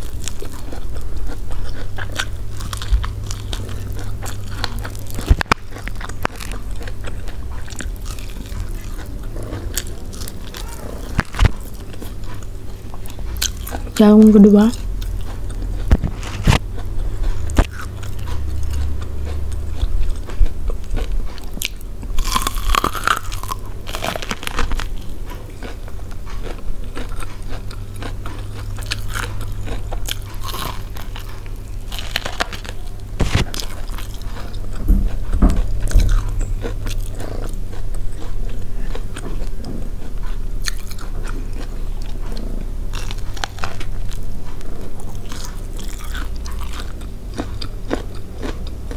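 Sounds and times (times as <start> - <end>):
steady low hum: 0.0 - 48.9
wet chewing: 0.0 - 48.9.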